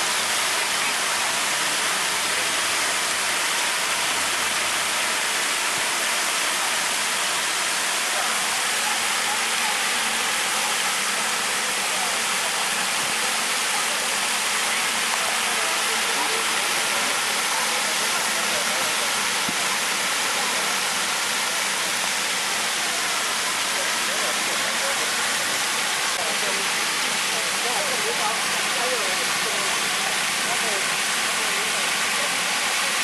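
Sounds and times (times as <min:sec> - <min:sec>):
fountain spray hissing on pond: 0:00.0 - 0:33.0.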